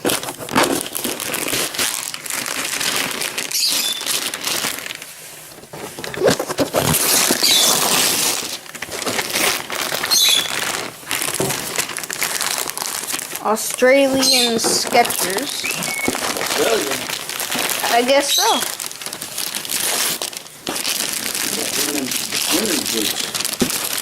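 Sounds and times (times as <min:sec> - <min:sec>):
wrapping paper rustling and tearing: 0:00.0 - 0:24.0.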